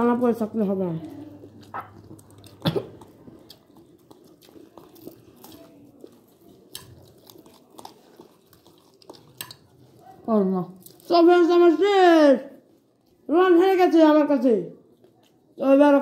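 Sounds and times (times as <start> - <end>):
person chewing food: 0.0 - 11.1, 12.5 - 13.3, 14.8 - 16.0.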